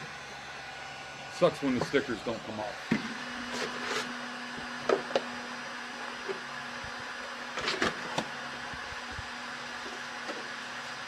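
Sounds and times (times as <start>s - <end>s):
heat gun whirring: 0.0s - 11.0s.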